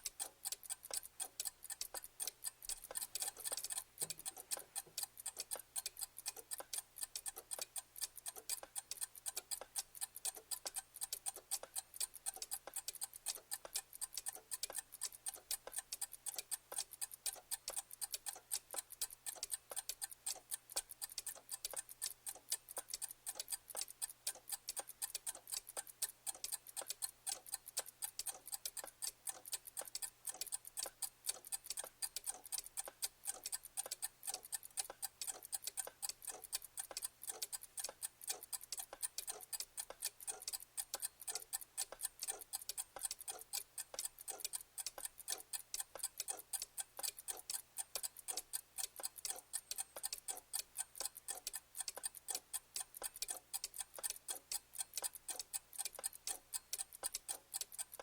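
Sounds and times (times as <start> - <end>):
mechanical clock ticking: 0.0 - 58.0.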